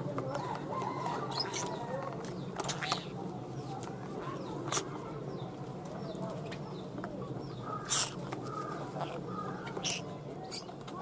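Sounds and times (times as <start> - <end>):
birds chirping and calling: 0.1 - 11.0.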